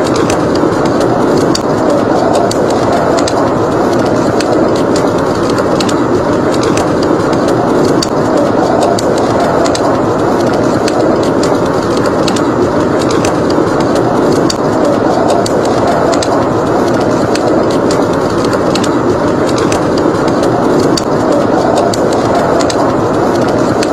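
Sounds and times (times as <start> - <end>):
blizzard wind roaring: 0.0 - 23.9
wood fire crackling: 0.0 - 23.9.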